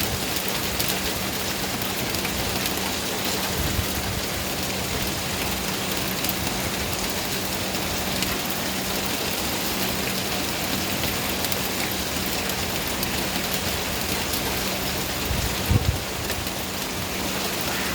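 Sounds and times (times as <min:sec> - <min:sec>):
rain falling: 0:00.0 - 0:17.9.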